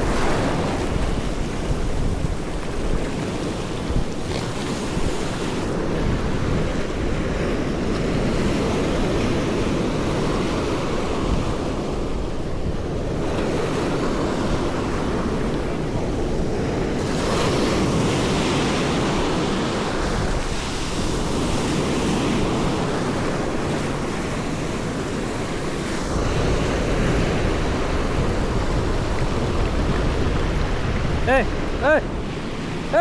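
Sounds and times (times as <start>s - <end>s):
ocean surf washing: 0.0s - 33.0s
wind rumbling on microphone: 0.0s - 33.0s.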